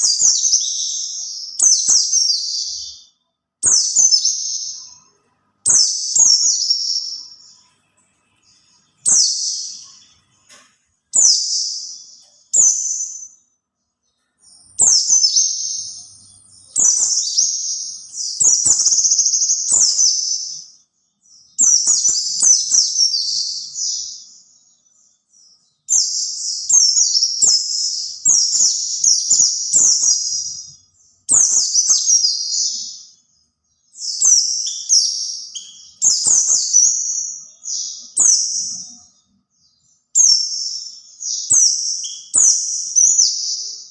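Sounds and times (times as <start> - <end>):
bird twittering: 0.0 - 7.7, 8.5 - 13.4, 14.4 - 20.7, 21.5 - 24.6, 25.9 - 33.3, 33.9 - 39.1, 40.2 - 43.9.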